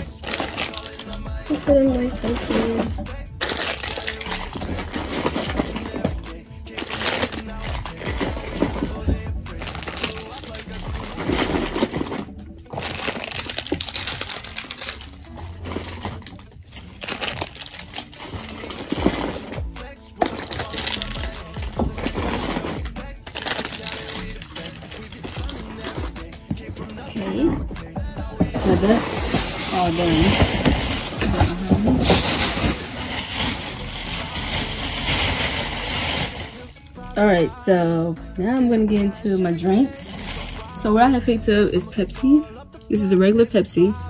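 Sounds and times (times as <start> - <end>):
plastic packets rustling: 0.0 - 37.2, 39.1 - 40.9.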